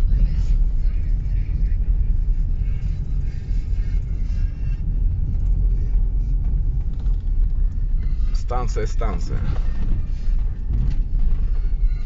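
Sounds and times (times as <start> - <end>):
car engine: 0.0 - 12.0
tyre and road noise: 0.0 - 12.0.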